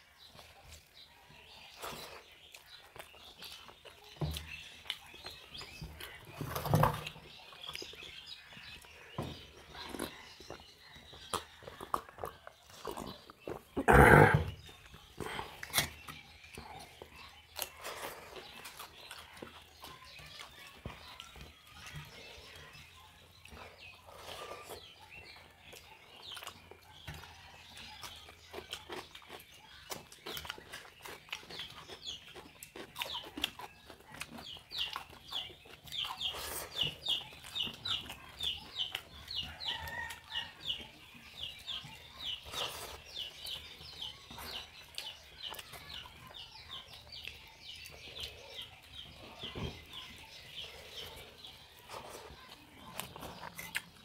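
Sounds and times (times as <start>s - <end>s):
chewing: 0.0s - 54.0s.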